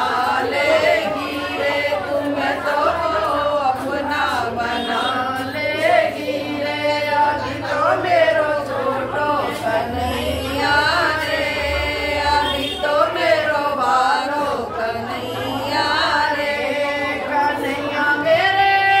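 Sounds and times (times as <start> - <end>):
women singing devotional song: 0.0 - 19.0.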